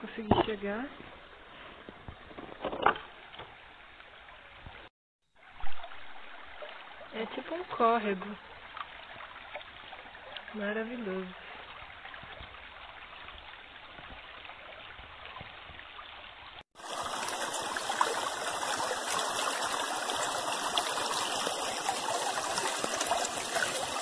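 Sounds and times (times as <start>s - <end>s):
stream trickling over pebbles: 0.0s - 24.0s.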